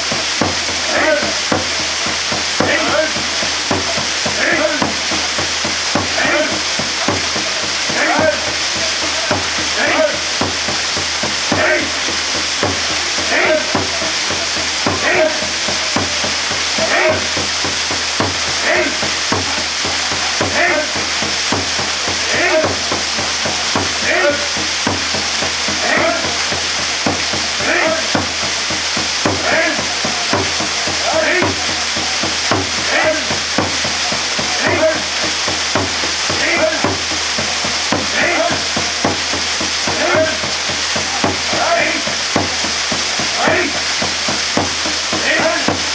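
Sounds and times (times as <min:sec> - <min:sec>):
waterfall pouring: 0:00.0 - 0:45.9.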